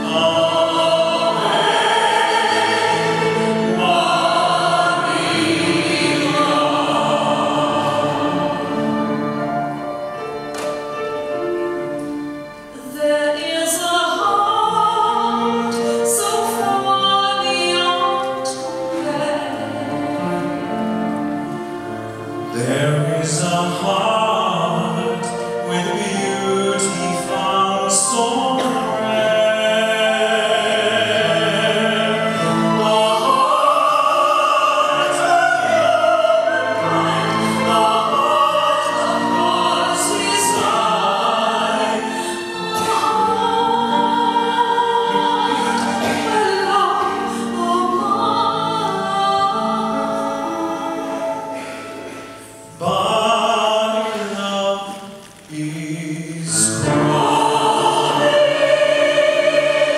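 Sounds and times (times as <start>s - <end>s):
mixed choir singing: 0.0s - 59.9s
piano accompaniment: 0.0s - 59.9s
solo voices singing: 0.0s - 59.9s.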